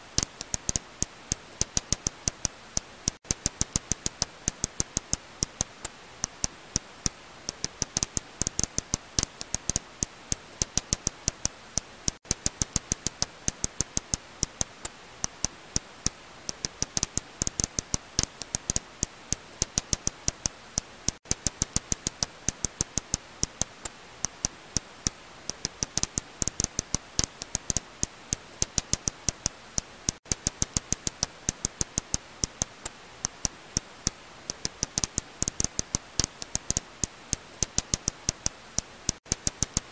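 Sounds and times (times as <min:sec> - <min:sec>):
steady hiss: 0:00.0 - 0:39.9
bat echolocation clicks: 0:00.1 - 0:39.9.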